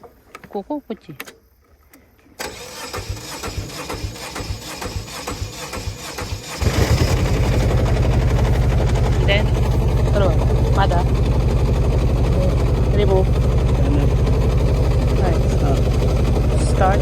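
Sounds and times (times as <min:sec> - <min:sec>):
engine starter cranking: 0:01.2 - 0:17.0
engine running: 0:02.4 - 0:17.0.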